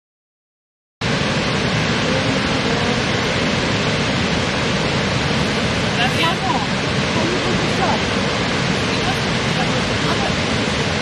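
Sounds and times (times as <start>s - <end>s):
waterfall rushing: 1.0s - 11.0s.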